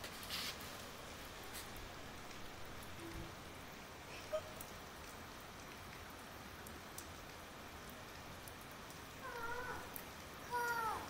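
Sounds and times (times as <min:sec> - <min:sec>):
rain on a tiled roof: 0:00.0 - 0:11.0.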